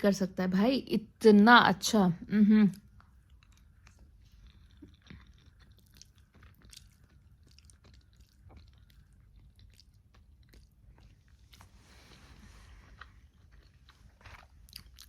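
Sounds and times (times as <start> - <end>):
chewing food: 2.7 - 15.0.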